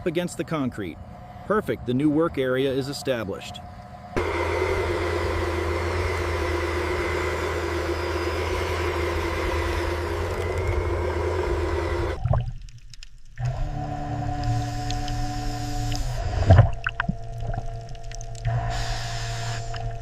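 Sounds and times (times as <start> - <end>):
boat engine droning: 0.0 - 12.6, 13.3 - 20.0
water noise: 0.9 - 20.0.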